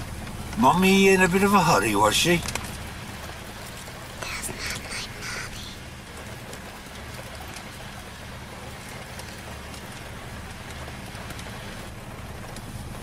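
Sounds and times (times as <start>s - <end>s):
rain pattering on a car: 0.0s - 13.0s
raindrop ticks: 0.0s - 13.0s.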